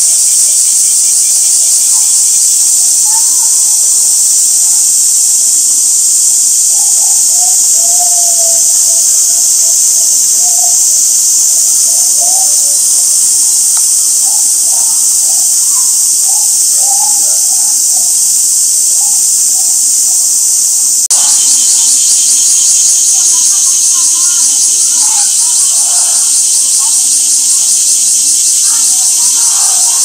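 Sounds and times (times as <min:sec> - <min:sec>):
cicadas buzzing: 0:00.0 - 0:30.0.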